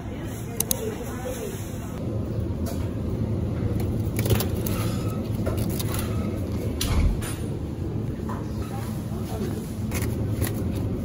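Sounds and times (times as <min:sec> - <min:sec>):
supermarket background rumble: 0:00.0 - 0:11.0.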